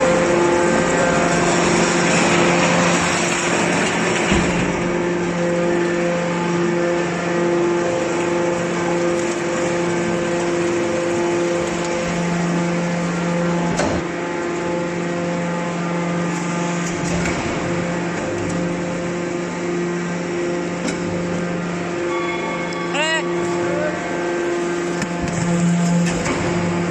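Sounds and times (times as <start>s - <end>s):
hydraulic power unit humming: 0.0s - 26.9s.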